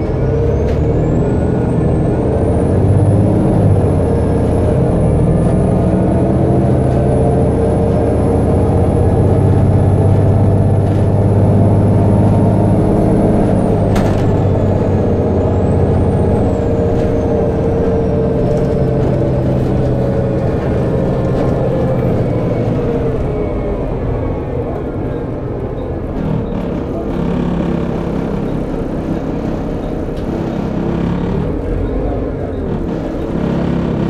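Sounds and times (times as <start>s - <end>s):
bus engine hum: 0.0s - 34.0s
road noise: 0.0s - 34.0s.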